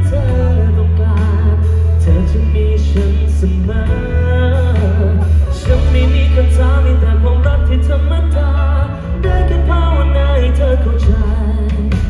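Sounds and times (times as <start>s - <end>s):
heavy sustained bass line: 0.0s - 12.0s
live pop ballad over pa: 0.0s - 12.0s
person singing melody: 0.0s - 12.0s.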